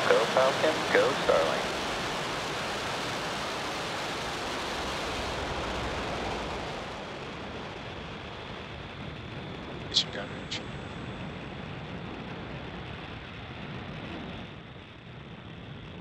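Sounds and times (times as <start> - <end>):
rocket engines rumbling: 0.0 - 16.0.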